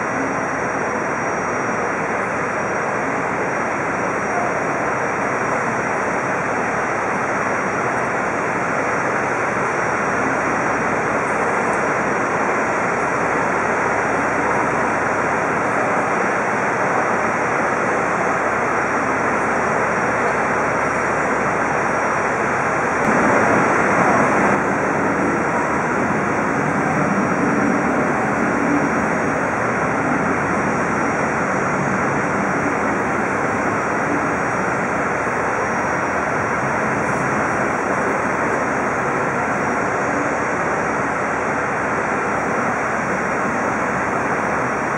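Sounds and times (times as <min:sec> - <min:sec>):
jet engines taxiing: 0:00.0 - 0:44.9.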